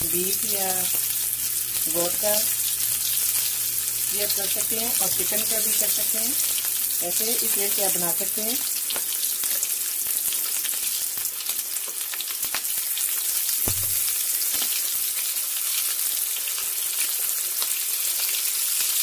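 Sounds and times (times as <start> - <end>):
meat deep-frying in oil: 0.0 - 19.0.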